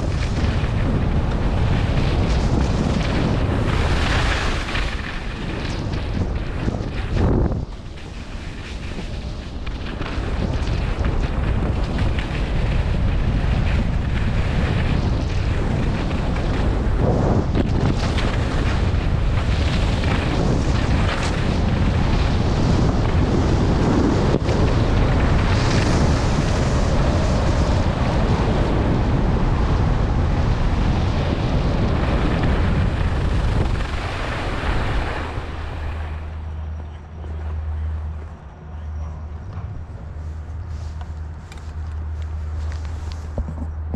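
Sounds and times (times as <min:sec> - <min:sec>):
skis scraping on snow: 0:00.0 - 0:38.3, 0:39.6 - 0:43.9
wind buffeting microphone: 0:00.0 - 0:43.9.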